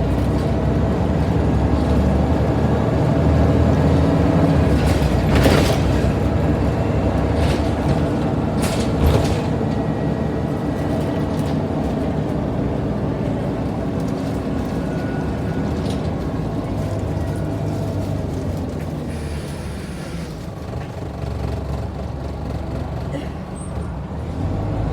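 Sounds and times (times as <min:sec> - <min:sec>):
bus engine drone: 0:00.0 - 0:24.9.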